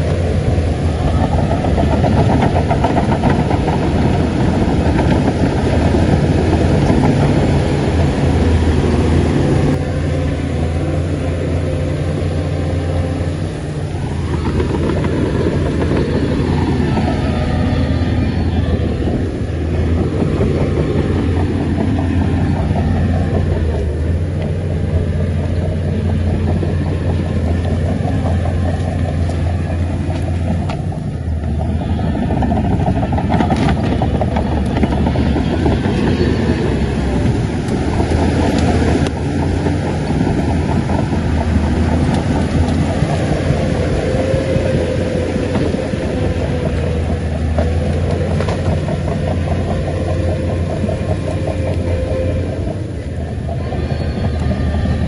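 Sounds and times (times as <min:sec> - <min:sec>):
bulldozer diesel engine running: 0:00.0 - 0:55.0
clatter and grind of earthmoving: 0:00.0 - 0:55.0.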